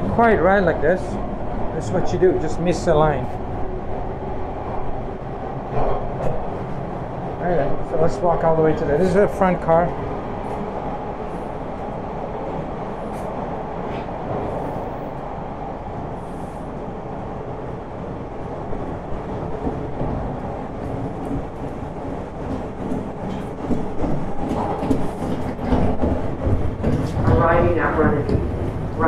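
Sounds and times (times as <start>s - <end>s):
subway car rumble and hiss: 0.0s - 29.0s.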